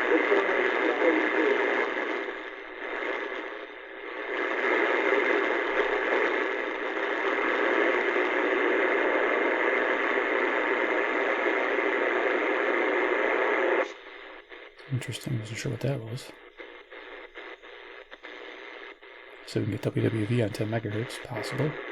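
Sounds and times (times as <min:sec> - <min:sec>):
noisy shortwave radio signal: 0:00.0 - 0:21.9.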